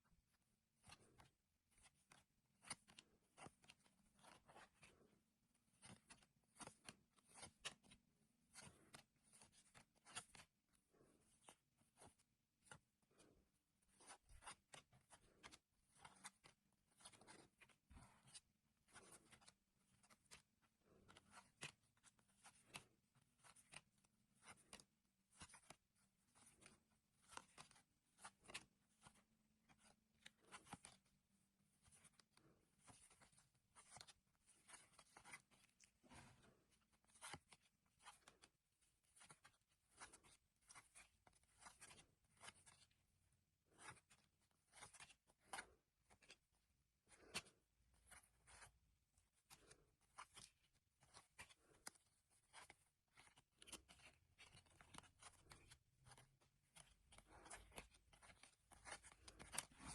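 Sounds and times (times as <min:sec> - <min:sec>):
trading cards rustling and clicking: 0:00.8 - 0:43.0, 0:43.7 - 0:59.9.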